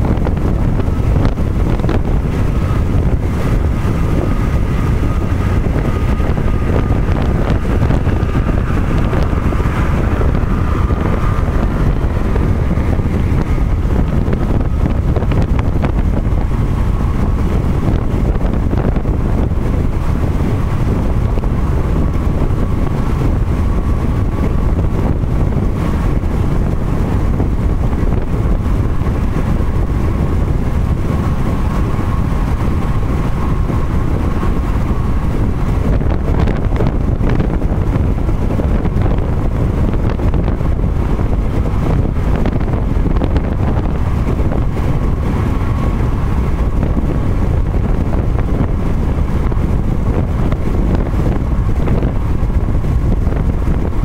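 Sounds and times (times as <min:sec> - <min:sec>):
faint steady whine: 0:00.0 - 0:54.0
road rumble: 0:00.0 - 0:54.0
wind noise from driving car: 0:00.0 - 0:54.0.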